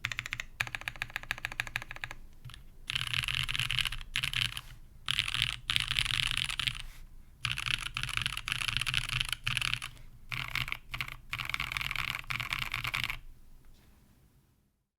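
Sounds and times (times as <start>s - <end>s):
fast typing on mechanical keyboard: 0.0s - 13.2s.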